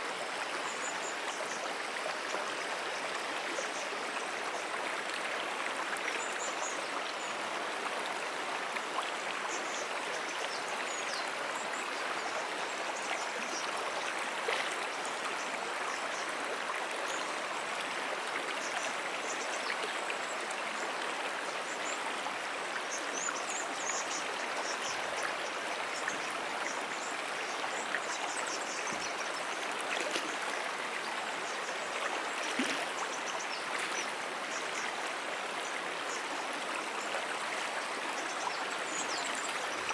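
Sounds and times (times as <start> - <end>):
stream rippling: 0.0 - 39.9.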